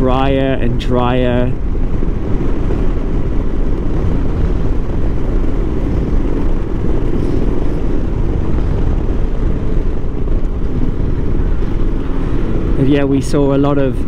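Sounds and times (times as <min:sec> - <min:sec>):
motorcycle engine and road noise: 0:00.0 - 0:14.0
wind rumbling on microphone: 0:00.0 - 0:14.0.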